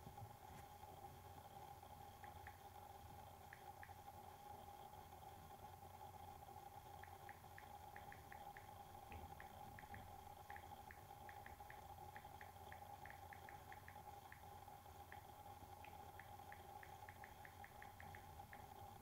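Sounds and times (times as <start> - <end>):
faint irregular ticks: 0.0 - 19.0
faint steady hum: 0.0 - 19.0.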